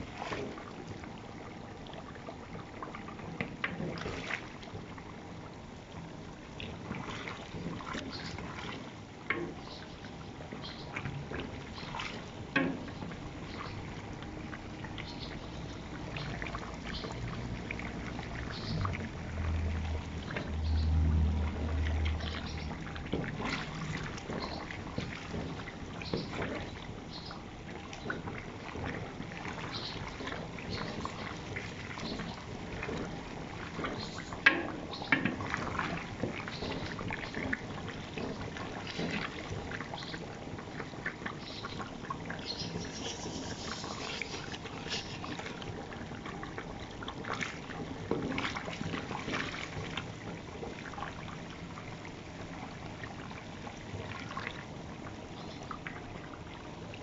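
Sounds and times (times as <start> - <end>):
meat frying in hot lard: 0.0 - 56.9.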